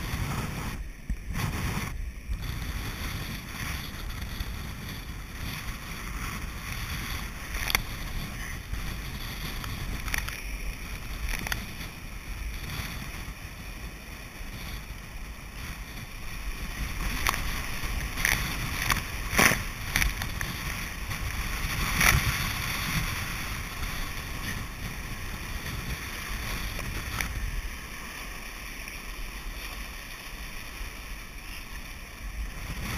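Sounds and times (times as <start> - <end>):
wind rumbling on microphone: 0.0 - 32.9
water splashing around hull: 0.1 - 32.9.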